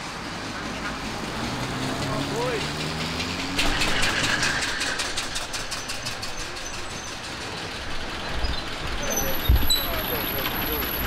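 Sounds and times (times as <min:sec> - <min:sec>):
old car engine chugging past: 0:00.0 - 0:11.0.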